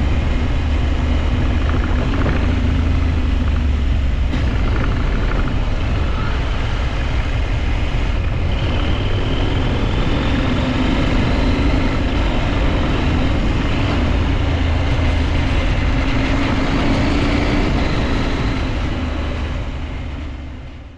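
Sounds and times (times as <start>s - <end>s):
motorcycle engine running: 0.0s - 20.9s
wind noise on microphone: 0.0s - 20.9s.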